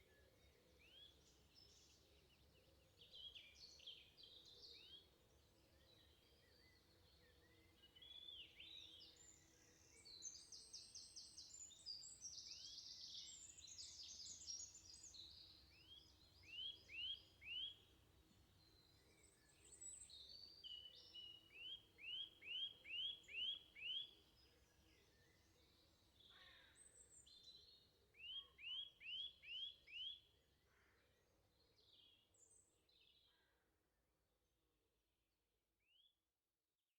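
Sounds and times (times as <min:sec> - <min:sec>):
faint songbird song: 0:00.0 - 0:34.0, 0:35.8 - 0:36.2.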